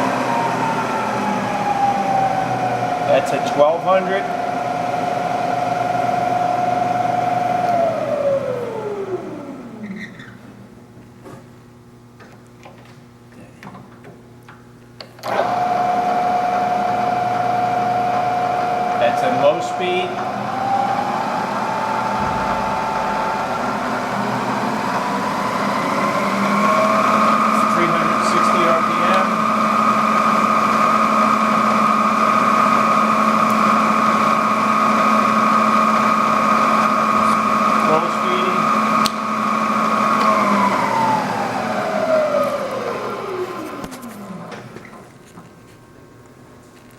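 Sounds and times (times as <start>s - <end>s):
milling machine spindle whine: 0.0s - 10.6s, 15.2s - 44.7s.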